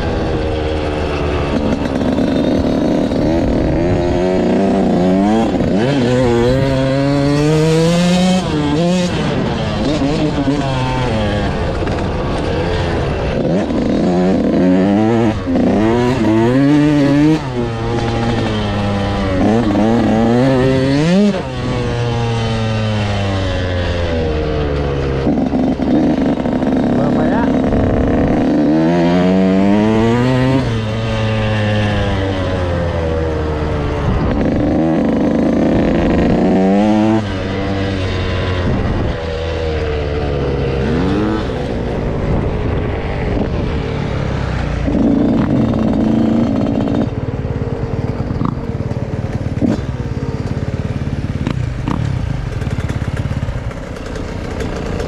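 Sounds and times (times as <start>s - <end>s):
wind noise: 0.0s - 26.6s, 27.5s - 50.1s
dirt bike engine revving: 0.0s - 55.0s.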